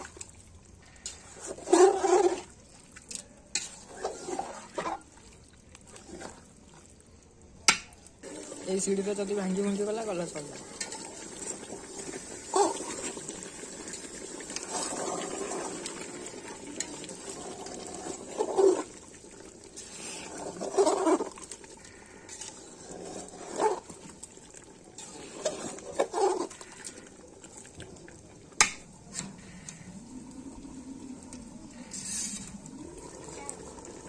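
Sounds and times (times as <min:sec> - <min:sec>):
ladle stirring in a metal pot: 0:00.0 - 0:07.0, 0:07.6 - 0:29.6, 0:31.7 - 0:33.8.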